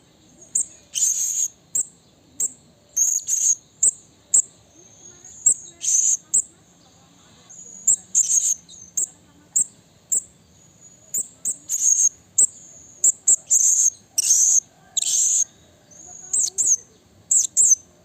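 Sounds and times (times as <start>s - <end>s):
parrot high thin chirps: 0.4s - 6.5s, 7.5s - 10.3s, 11.1s - 17.8s.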